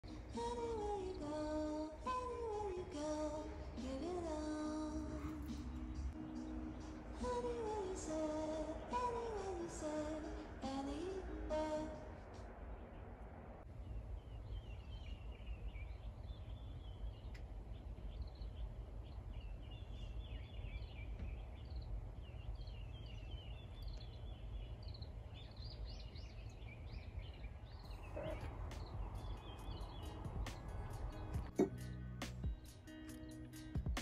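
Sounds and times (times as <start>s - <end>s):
low background rumble: 0.0s - 32.6s
small birds chirping: 0.0s - 34.0s.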